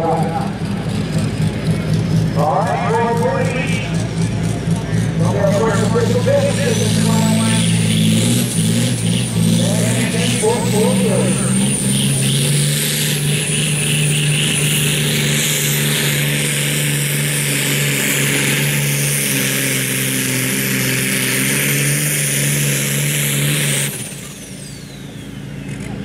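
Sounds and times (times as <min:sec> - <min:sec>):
tractor diesel engine at full load: 0:00.0 - 0:26.0.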